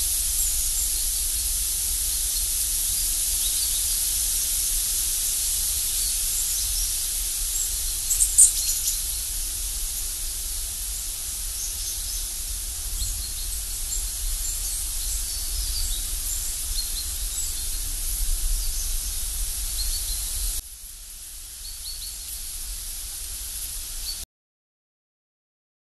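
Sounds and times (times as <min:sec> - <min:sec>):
steady hiss: 0:00.0 - 0:24.2.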